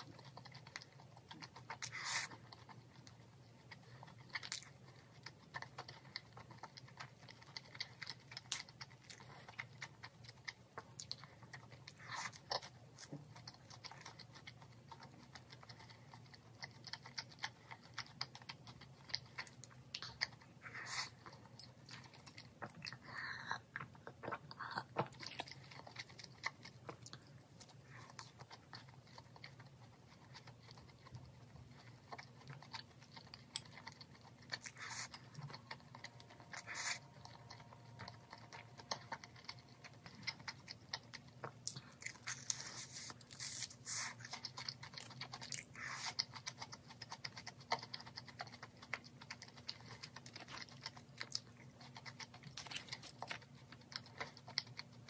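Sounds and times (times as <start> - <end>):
chewing with crisp crunches: 0.0 - 55.0.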